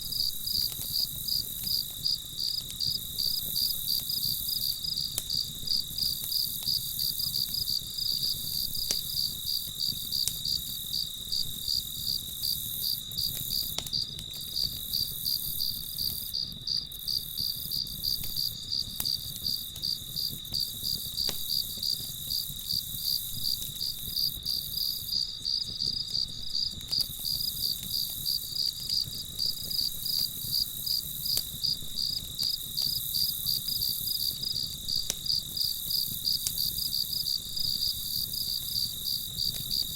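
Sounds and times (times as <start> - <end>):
campfire popping: 0.0 - 39.9
crickets chirping: 0.0 - 39.9.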